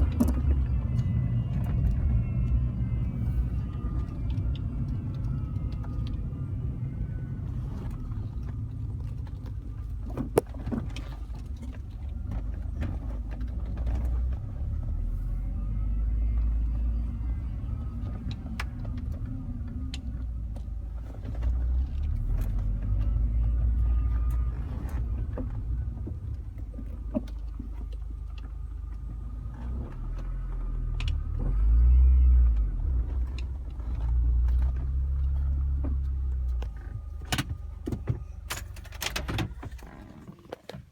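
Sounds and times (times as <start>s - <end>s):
car engine and road rumble: 0.0s - 40.9s
faint whining: 0.0s - 40.9s.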